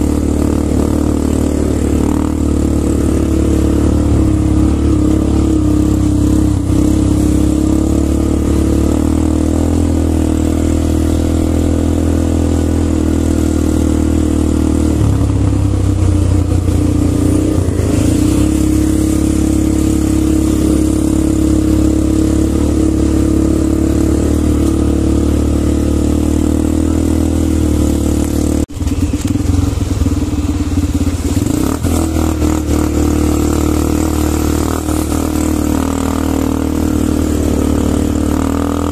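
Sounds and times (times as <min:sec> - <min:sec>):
quad bike engines running: 0:00.0 - 0:38.9.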